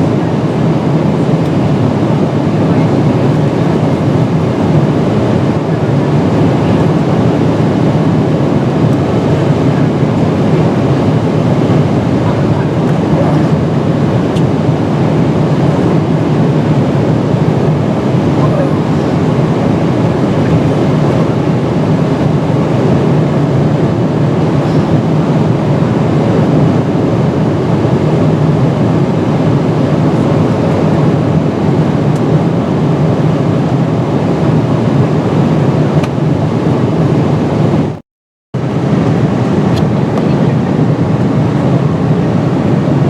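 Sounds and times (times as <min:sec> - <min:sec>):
airflow rush in cabin: 0:00.0 - 0:38.0, 0:38.6 - 0:43.0
low engine drone: 0:00.0 - 0:38.0, 0:38.6 - 0:43.0.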